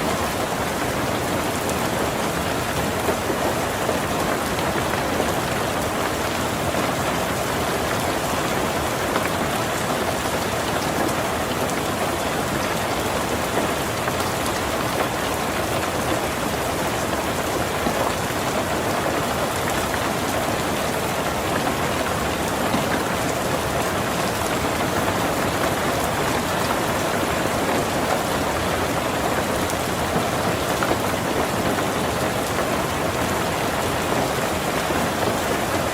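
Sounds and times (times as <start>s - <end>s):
heavy rain on a tin roof: 0.0s - 35.9s.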